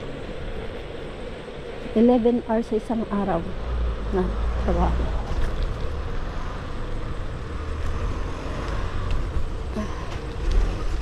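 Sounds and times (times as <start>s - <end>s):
scooter wheels rumbling on asphalt: 0.0s - 11.0s.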